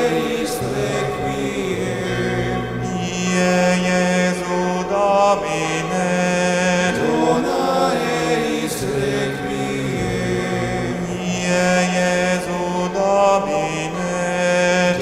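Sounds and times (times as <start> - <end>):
male voices chanting in harmony: 0.0 - 15.0.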